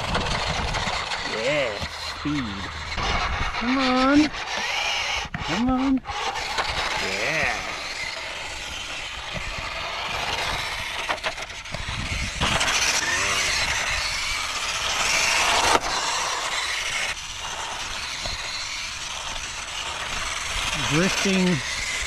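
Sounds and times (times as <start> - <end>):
small electric motor whining: 0.0 - 22.0
tyres hissing on grit: 0.0 - 22.0.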